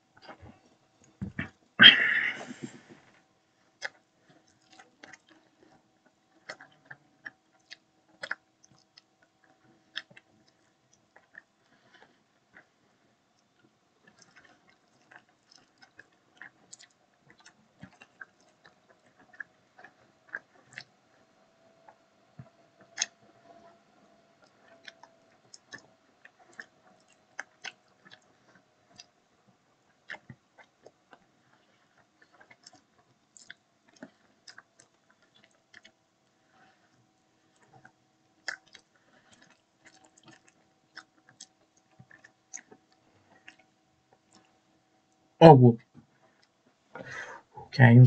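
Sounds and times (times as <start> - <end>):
person chewing food: 0.1 - 23.7, 24.4 - 45.2, 46.0 - 47.6.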